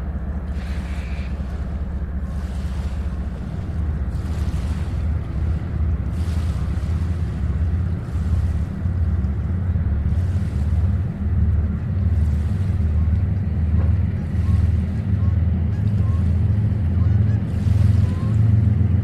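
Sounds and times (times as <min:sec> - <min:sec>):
distant freight train rumbling: 0:00.0 - 0:19.0
small waves: 0:00.0 - 0:19.0
wind buffeting microphone: 0:00.0 - 0:19.0.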